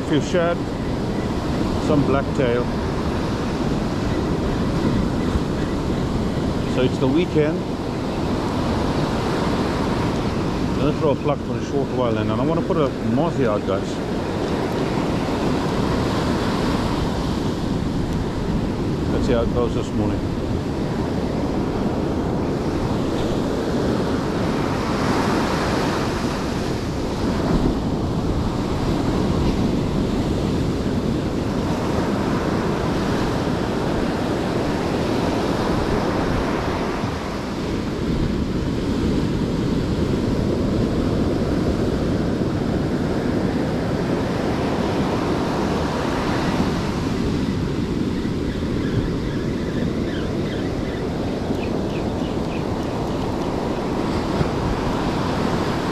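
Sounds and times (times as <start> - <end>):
ocean surf on beach: 0.0 - 55.9
wind buffeting microphone: 0.0 - 55.9.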